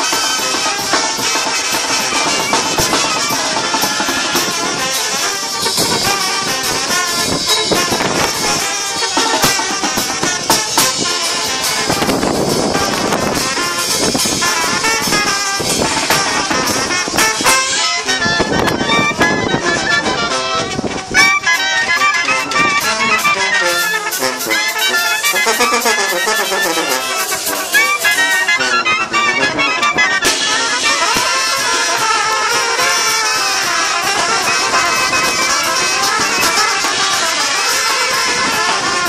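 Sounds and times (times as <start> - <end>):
brass band playing live: 0.0 - 39.0.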